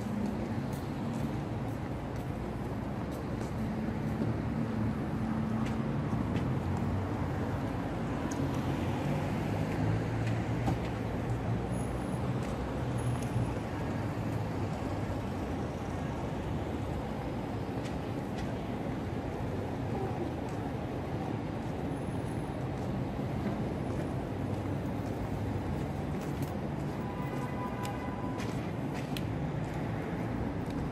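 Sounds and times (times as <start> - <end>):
road traffic: 0.0 - 30.9.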